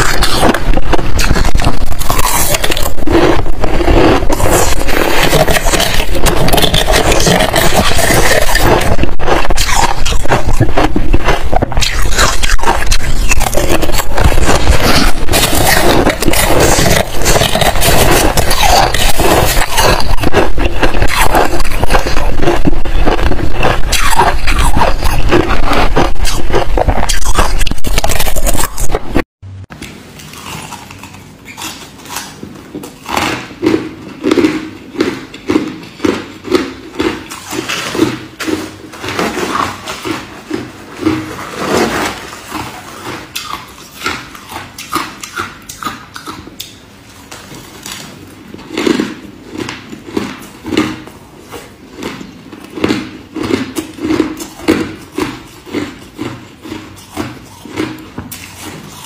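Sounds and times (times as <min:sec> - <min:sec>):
ice crunching while eaten: 0:00.0 - 0:29.2, 0:30.3 - 0:46.8, 0:47.4 - 0:59.0.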